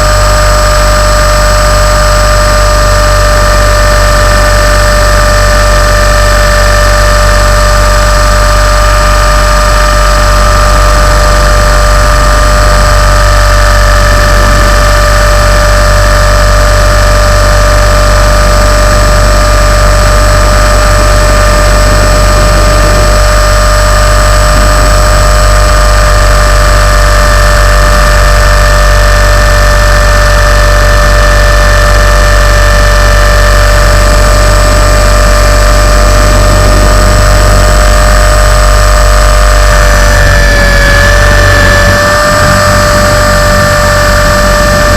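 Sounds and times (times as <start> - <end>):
electric motor whine: 0.0 - 44.9
rotor low rumble: 0.0 - 44.9.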